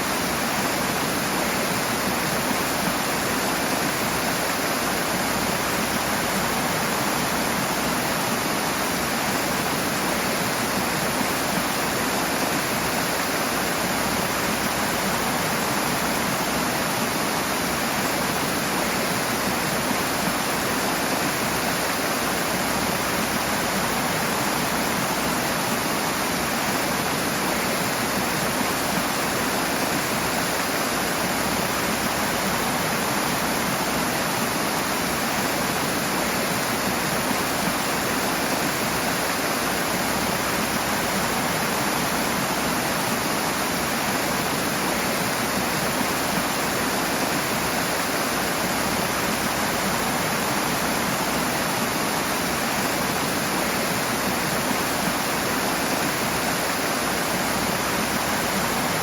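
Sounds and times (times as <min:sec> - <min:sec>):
fast-flowing water roaring: 0:00.0 - 0:59.0.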